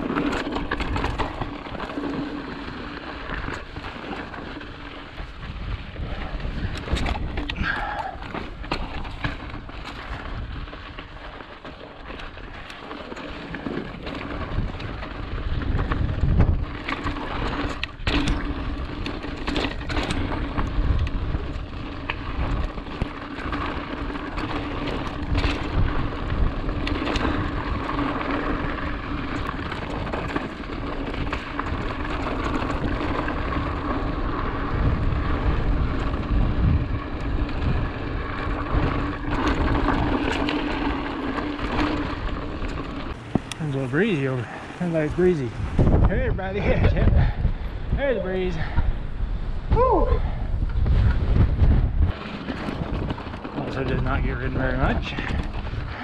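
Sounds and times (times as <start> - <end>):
bike knocks and rattles: 0.0 - 47.7, 49.7 - 56.0
bike tyres crunching on gravel: 0.0 - 56.0
wind rumbling on microphone: 0.0 - 56.0.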